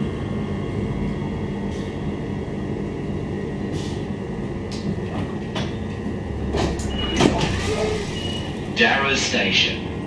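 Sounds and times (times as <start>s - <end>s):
faint train whine: 0.0s - 10.0s
train cabin rumble: 0.0s - 10.0s.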